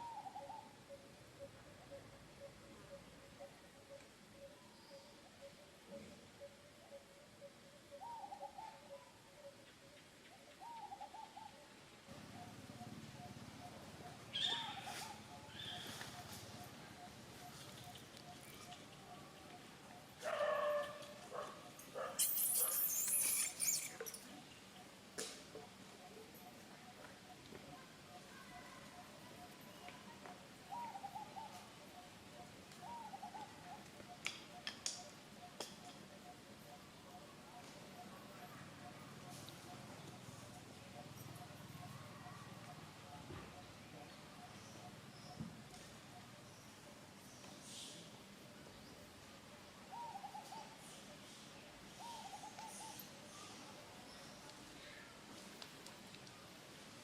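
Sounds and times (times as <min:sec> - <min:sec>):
hooting bird calls: 0:00.0 - 0:24.9, 0:25.6 - 0:45.4, 0:49.8 - 0:51.1, 0:52.0 - 0:53.5
faint background hiss: 0:00.0 - 0:57.0.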